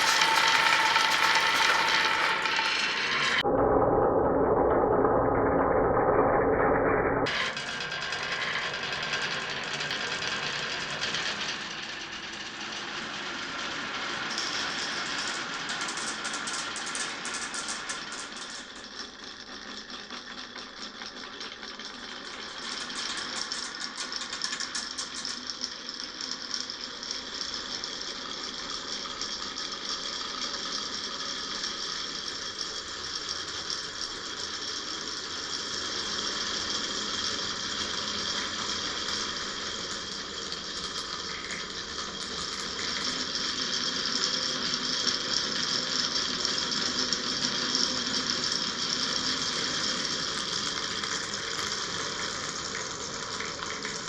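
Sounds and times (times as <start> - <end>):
marbles rattling down a marble run: 0.0 - 3.4, 7.3 - 54.0.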